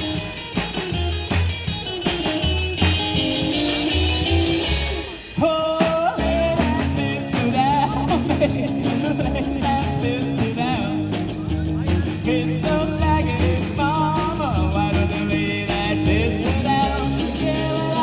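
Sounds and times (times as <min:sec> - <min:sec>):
upright double bass: 0:00.0 - 0:05.4, 0:06.2 - 0:18.0
drums: 0:00.0 - 0:18.0
electric guitar melody: 0:00.0 - 0:18.0.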